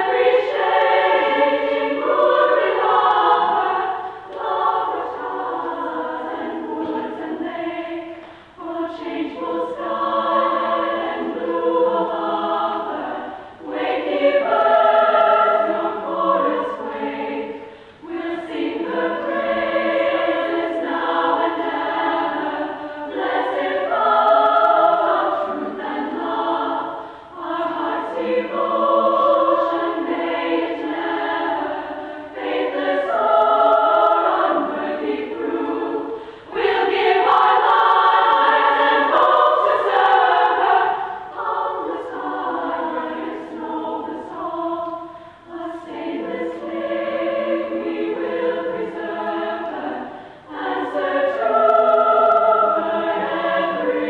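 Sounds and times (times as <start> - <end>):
choir singing in harmony: 0.0 - 54.0.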